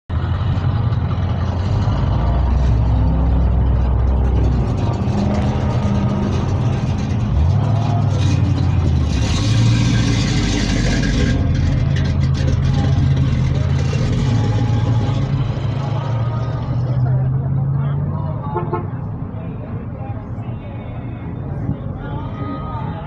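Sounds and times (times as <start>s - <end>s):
car engines idling: 0.1s - 23.0s.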